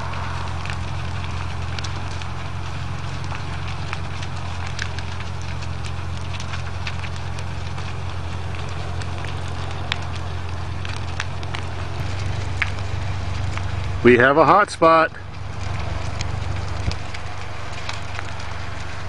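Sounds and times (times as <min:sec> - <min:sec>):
fire crackling and popping: 0:00.0 - 0:19.0
fire low rumble: 0:00.0 - 0:19.0.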